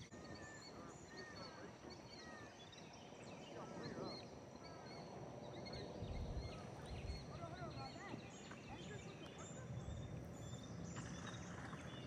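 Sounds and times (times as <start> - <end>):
birds chirping and singing: 0.0 - 12.0.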